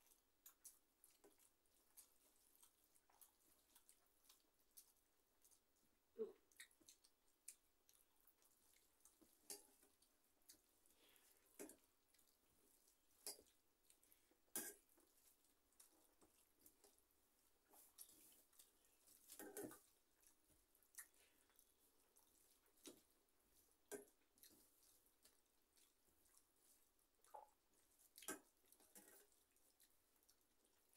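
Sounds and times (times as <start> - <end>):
wet eating clicks and smacks: 0.0 - 30.9.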